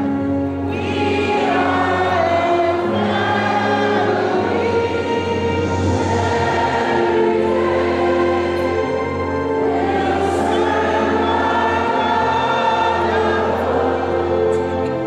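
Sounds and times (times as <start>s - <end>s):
choir singing slow song: 0.0s - 15.0s.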